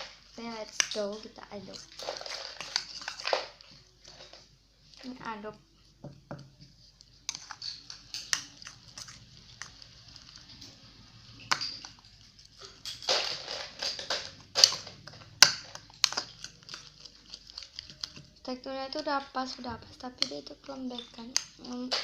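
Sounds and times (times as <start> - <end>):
slime squelching: 0.0 - 22.0.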